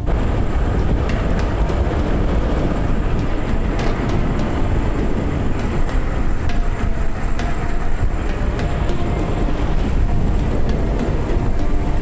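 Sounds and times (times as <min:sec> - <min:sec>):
bike clicks and rattles: 0:00.0 - 0:12.0
tyres rumbling on road: 0:00.0 - 0:12.0
wind rushing over microphone: 0:00.0 - 0:12.0.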